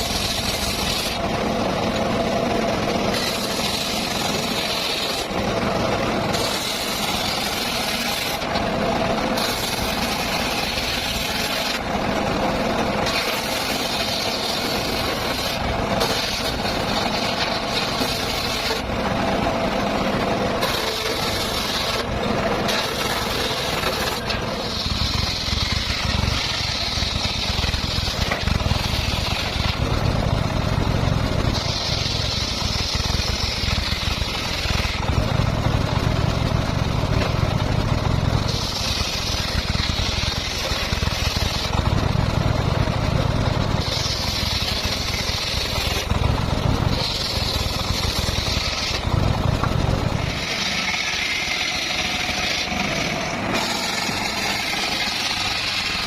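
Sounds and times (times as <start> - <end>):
circular saw cutting: 0.0 - 56.0.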